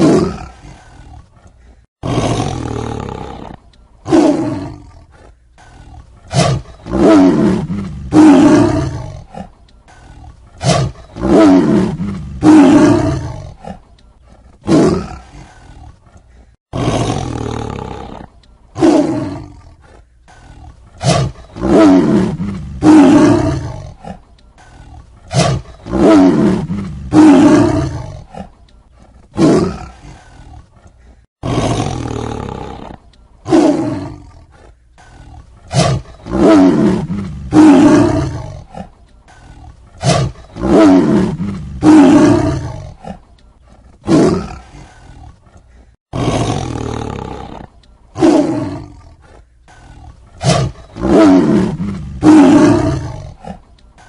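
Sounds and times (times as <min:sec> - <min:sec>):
tiger roaring and snarling: 0:00.0 - 0:54.0.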